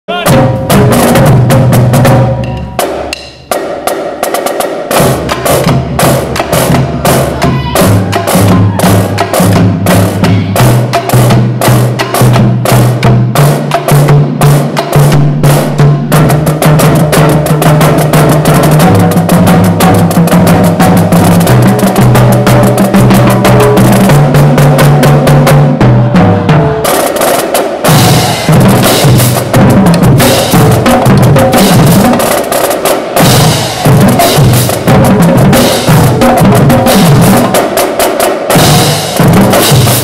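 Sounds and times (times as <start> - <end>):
snare drums: 0.1 - 40.0
tenor drums: 0.1 - 40.0
tuned marching bass drums: 0.1 - 40.0.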